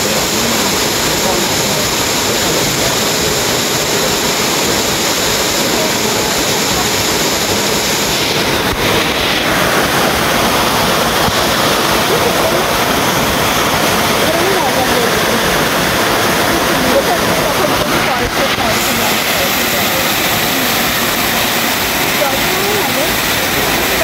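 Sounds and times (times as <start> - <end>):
waterfall rushing onto rocks: 0.0 - 24.0.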